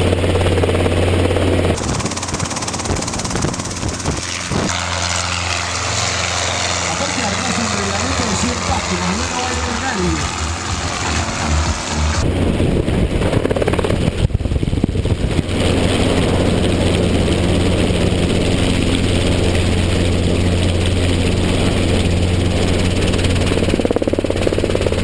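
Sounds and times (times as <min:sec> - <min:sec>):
helicopter engine drone: 0:00.0 - 0:25.0
helicopter rotor beating: 0:00.0 - 0:25.0.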